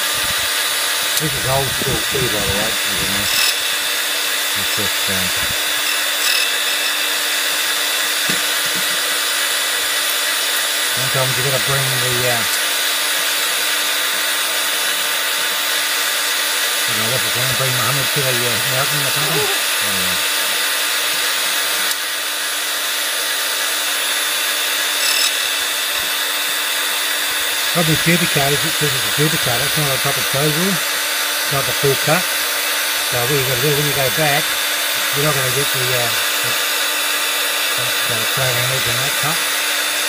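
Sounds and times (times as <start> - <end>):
key duplicator motor whirring: 0.0 - 40.0.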